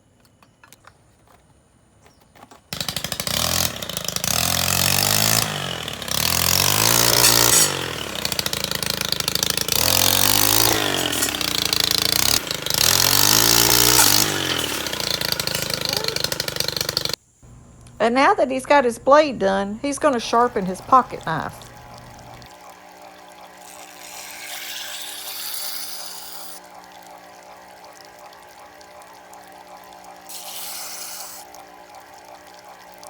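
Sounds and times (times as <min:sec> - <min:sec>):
motor sharpener grinding saw blade: 0:02.8 - 0:33.0.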